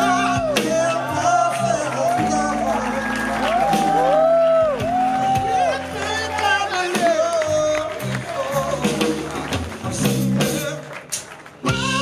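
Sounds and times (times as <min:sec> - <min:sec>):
bass: 0:00.0 - 0:12.0
rock band playing: 0:00.0 - 0:12.0.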